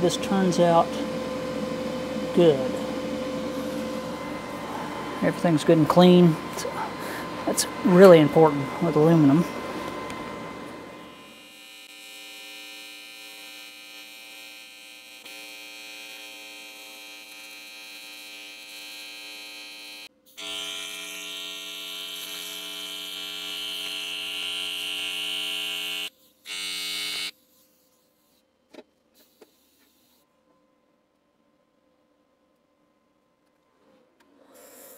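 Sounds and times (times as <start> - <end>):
welding arc buzzing: 0.0 - 28.4.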